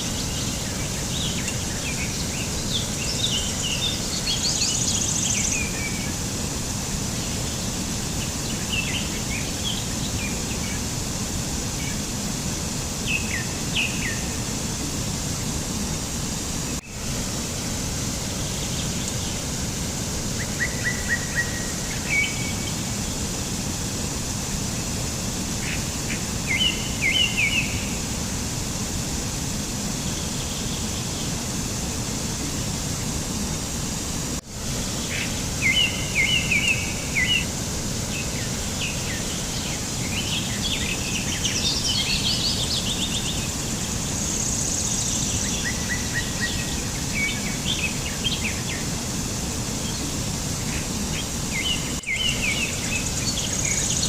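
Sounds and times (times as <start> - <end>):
small birds chirping: 0.0 - 15.6, 17.5 - 28.2, 34.9 - 54.0.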